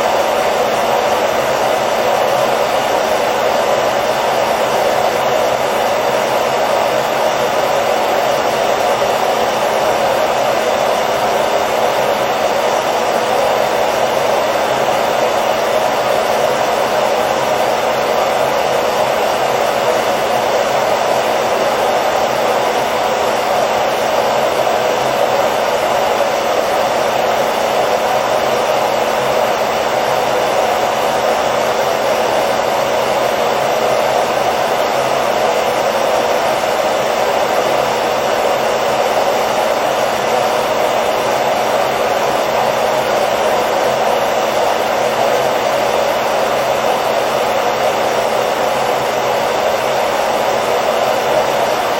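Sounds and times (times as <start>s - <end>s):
hair dryer running: 0.0s - 51.9s.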